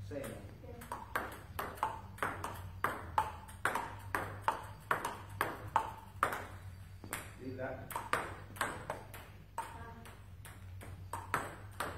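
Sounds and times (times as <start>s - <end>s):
table tennis ball hits: 0.0s - 11.9s.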